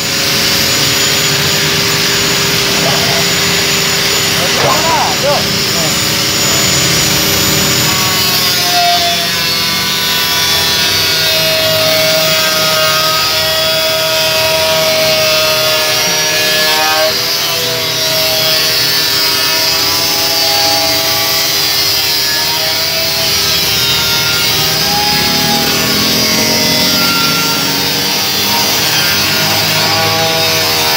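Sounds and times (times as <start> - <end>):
angle grinder cutting metal: 0.0 - 30.9.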